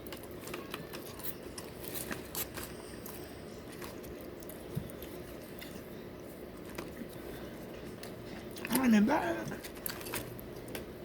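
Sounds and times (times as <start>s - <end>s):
chewing and biting food: 0.0s - 11.0s
low room hum: 0.0s - 11.0s.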